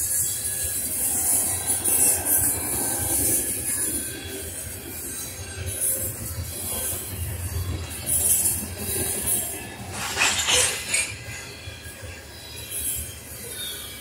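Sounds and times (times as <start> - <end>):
train wheels rumbling on rails: 0.0 - 14.0
wheels squealing and hissing: 0.0 - 14.0.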